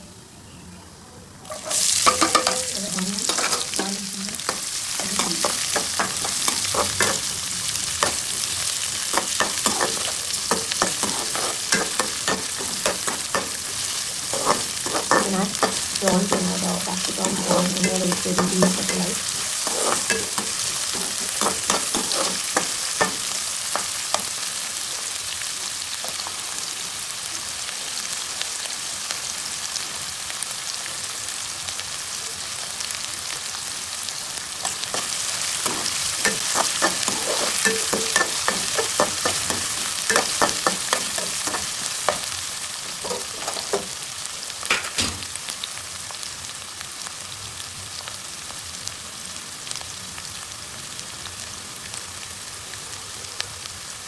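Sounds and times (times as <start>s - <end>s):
food sizzling in hot oil: 1.4s - 54.0s.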